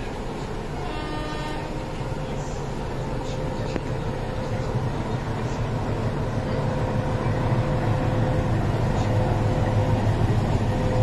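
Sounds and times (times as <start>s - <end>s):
diesel locomotive engine running: 0.0s - 11.0s.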